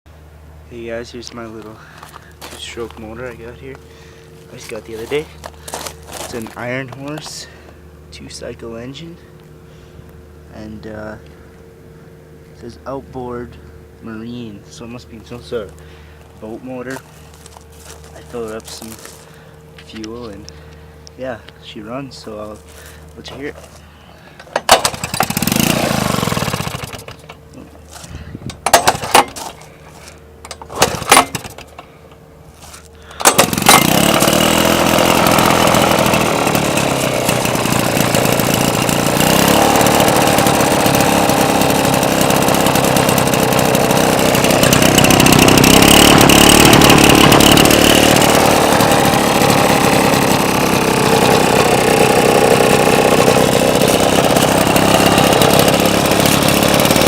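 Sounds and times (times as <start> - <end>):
two-stroke engine running: 0.2 - 10.9, 13.3 - 57.0.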